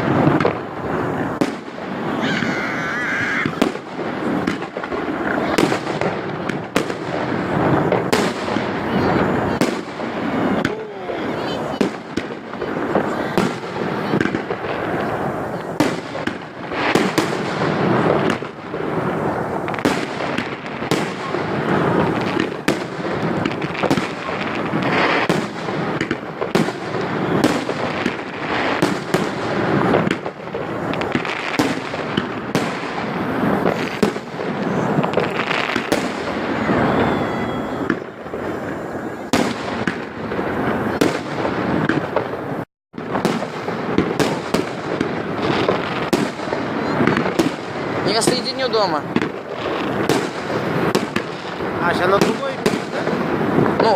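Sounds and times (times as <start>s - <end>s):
fireworks bangs: 0.0s - 53.9s
fireworks crackling: 0.0s - 53.9s.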